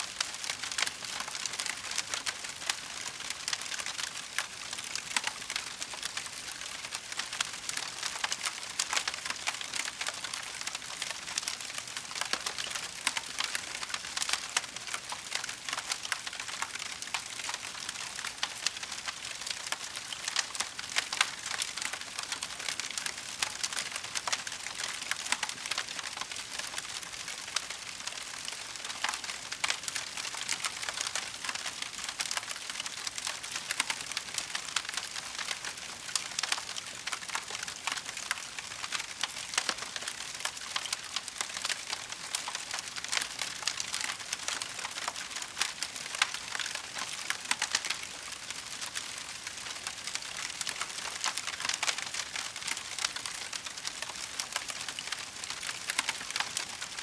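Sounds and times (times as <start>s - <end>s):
wood fire crackling: 0.2s - 57.0s.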